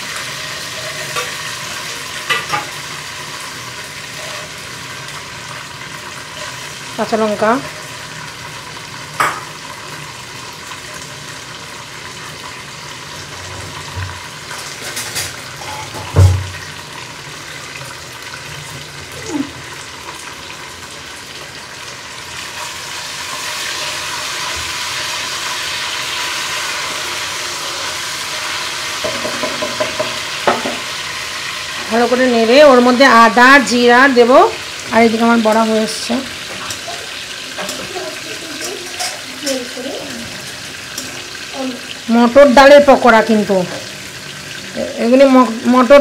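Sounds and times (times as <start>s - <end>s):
ghee sizzling in a pot: 0.0s - 46.0s.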